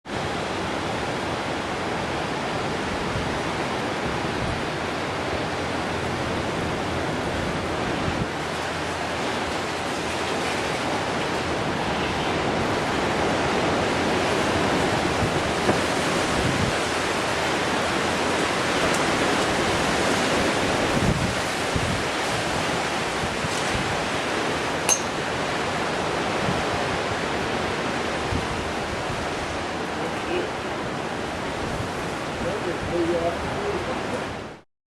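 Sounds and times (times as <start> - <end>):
strong wind blowing: 0.1 - 34.6
wind buffeting microphone: 2.6 - 30.1, 30.7 - 34.5.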